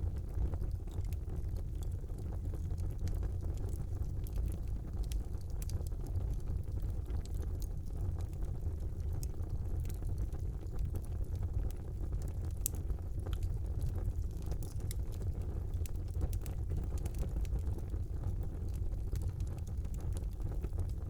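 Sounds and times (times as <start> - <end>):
fire crackles and pops: 0.0 - 21.0
low rumble of flames: 0.0 - 21.0.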